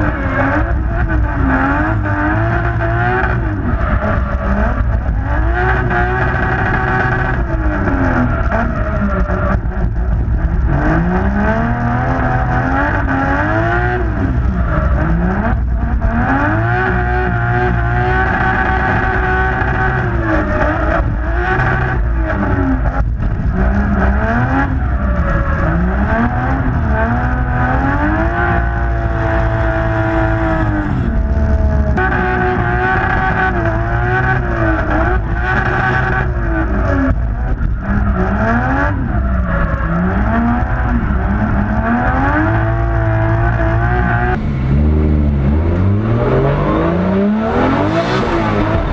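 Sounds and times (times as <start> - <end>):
car engine revving hard: 0.0 - 48.9.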